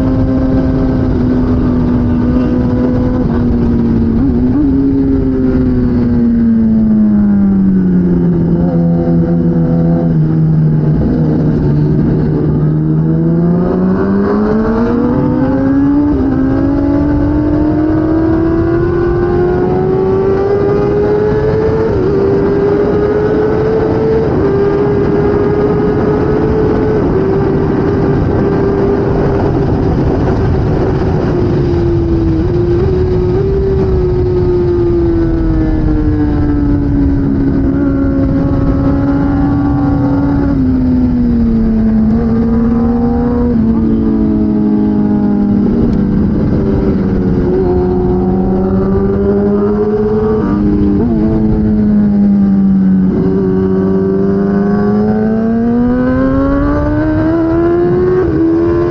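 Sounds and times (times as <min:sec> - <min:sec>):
motorcycle engine revving: 0:00.0 - 0:58.9
steady rushing noise: 0:00.0 - 0:58.9.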